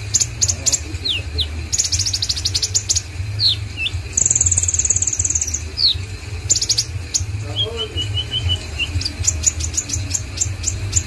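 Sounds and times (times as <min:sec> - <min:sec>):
sunbird singing trills: 0:00.0 - 0:11.0.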